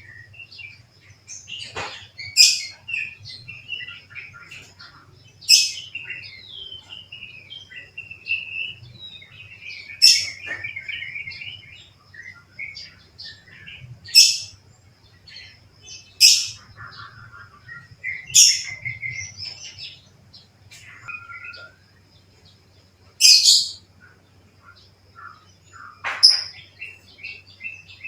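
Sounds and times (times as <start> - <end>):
bulbul singing warbled phrases: 0.0 - 28.0
faint low hum: 0.0 - 28.0.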